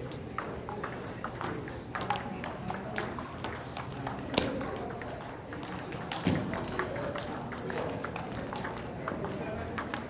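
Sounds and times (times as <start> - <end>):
table tennis balls bouncing: 0.0 - 10.0.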